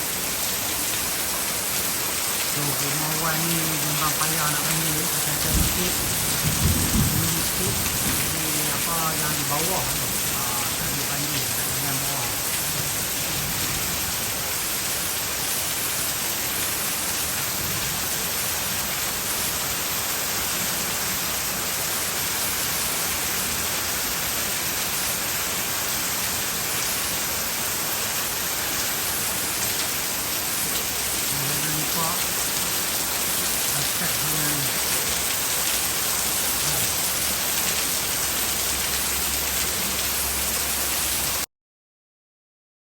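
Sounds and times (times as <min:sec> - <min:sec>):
heavy rain pouring: 0:00.0 - 0:41.5.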